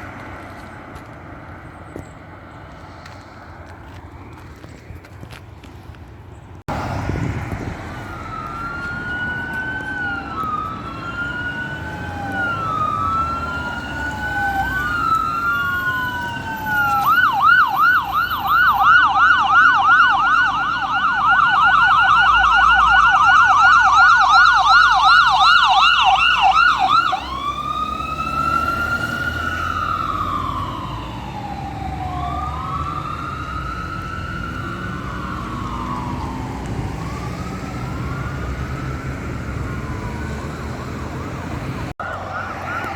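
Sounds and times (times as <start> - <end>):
truck engine rumbling: 0.0 - 42.9
fire engine siren wailing and yelping: 7.4 - 42.9.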